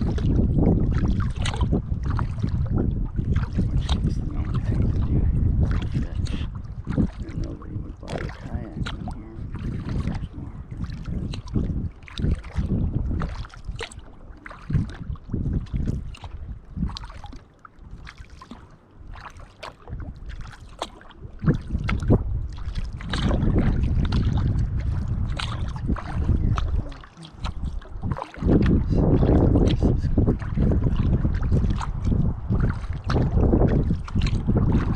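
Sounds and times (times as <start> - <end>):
paddle strokes splashing: 0.0 - 34.9
wind buffeting microphone: 0.0 - 34.9.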